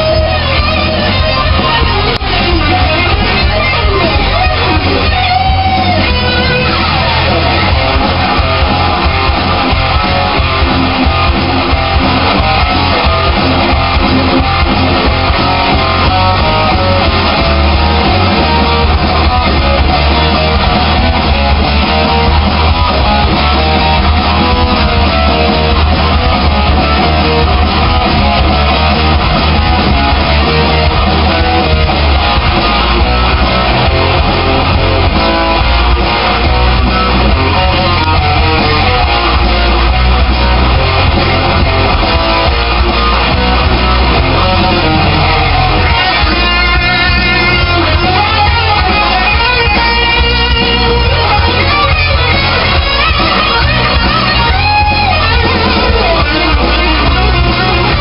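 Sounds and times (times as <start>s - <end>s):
rock band with electric guitar: 0.0s - 58.0s.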